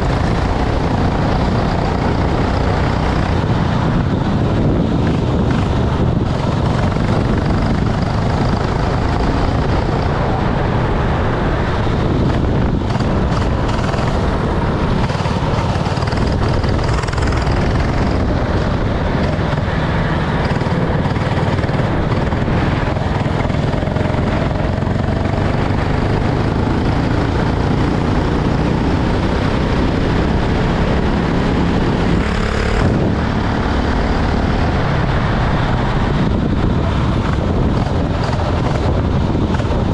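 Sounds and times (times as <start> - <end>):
racing kart engine revving: 0.0 - 39.9
steady rush of noise: 0.0 - 39.9.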